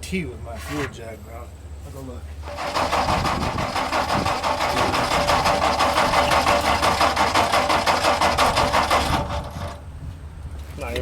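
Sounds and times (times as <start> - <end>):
truck engine pulsing: 0.6 - 10.0.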